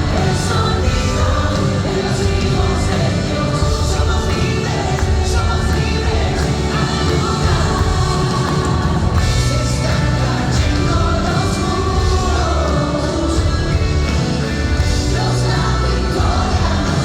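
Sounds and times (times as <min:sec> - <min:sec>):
band playing worship song: 0:00.0 - 0:17.0
voices singing: 0:00.0 - 0:17.0.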